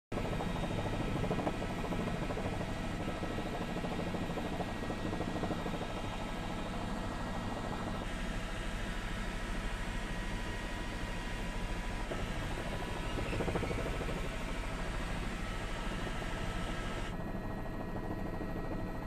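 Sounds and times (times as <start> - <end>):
helicopter rotor and engine drone: 0.1 - 19.0.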